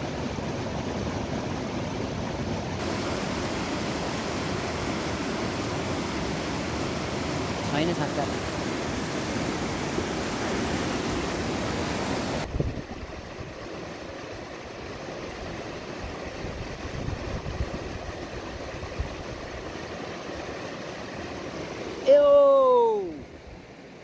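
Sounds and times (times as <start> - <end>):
river rushing over boulders: 0.0 - 24.0.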